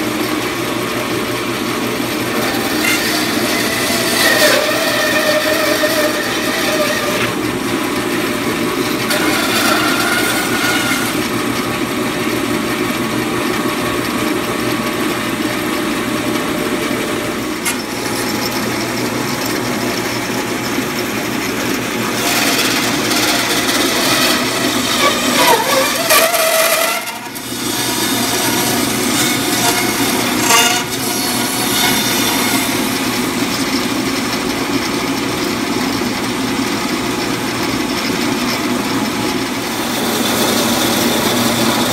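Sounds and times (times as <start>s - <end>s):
band saw cutting meat: 0.0s - 41.9s.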